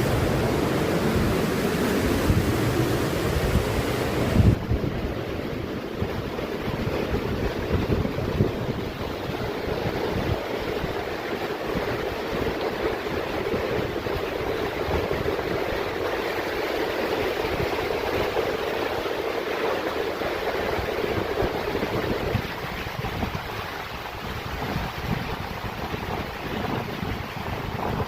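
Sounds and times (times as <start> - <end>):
mountain stream rushing: 0.0 - 28.0
wind buffeting microphone: 0.0 - 28.0.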